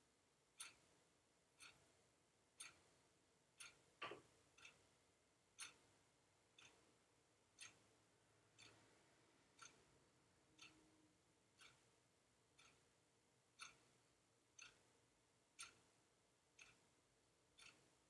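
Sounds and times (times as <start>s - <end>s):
clock ticking: 0.6s - 1.0s, 1.6s - 2.0s, 2.6s - 3.0s, 3.6s - 10.0s, 10.6s - 11.0s, 11.6s - 18.0s.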